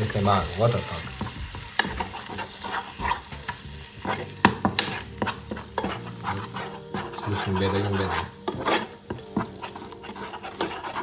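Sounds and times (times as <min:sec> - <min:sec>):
light sizzle in a pan: 0:00.0 - 0:11.0
utensil scraping and clicking pan: 0:01.2 - 0:11.0.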